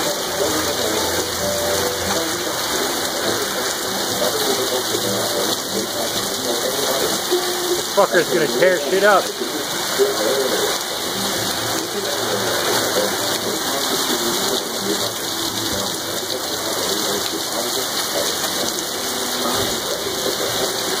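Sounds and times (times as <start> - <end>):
torrential rain on pavement: 0.0 - 21.0.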